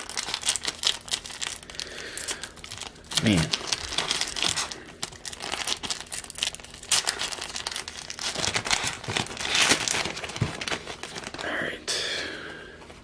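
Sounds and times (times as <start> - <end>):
card pack wrapper crinkling: 0.0 - 11.6.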